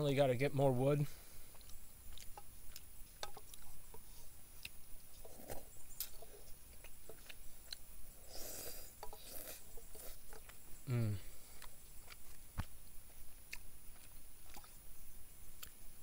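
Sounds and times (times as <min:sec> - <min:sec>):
chewing: 0:01.5 - 0:15.0.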